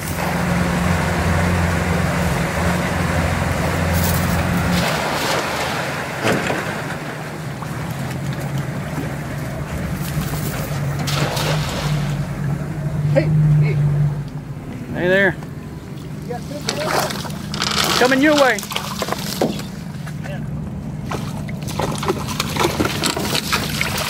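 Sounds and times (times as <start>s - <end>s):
outboard motor running: 0.0s - 24.0s
water rushing: 0.0s - 24.0s.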